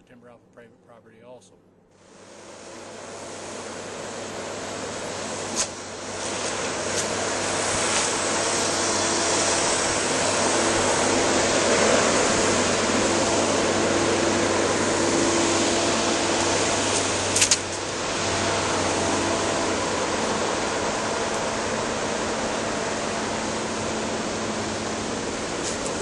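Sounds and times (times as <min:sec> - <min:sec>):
diesel engine running under load: 0:02.0 - 0:26.0.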